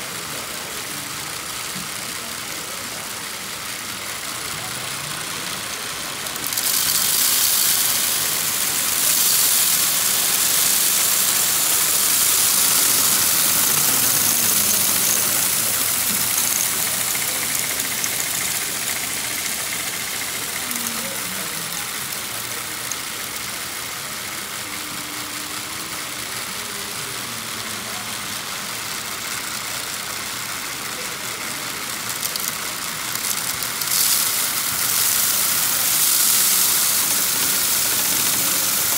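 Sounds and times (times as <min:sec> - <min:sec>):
toy motors whirring: 0:00.0 - 0:38.9.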